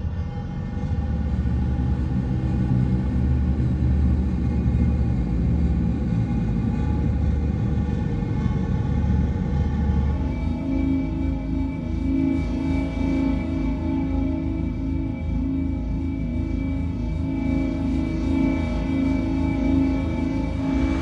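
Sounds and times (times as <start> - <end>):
deep steady rumble drone: 0.0 - 21.0
faint sustained tones: 0.0 - 21.0.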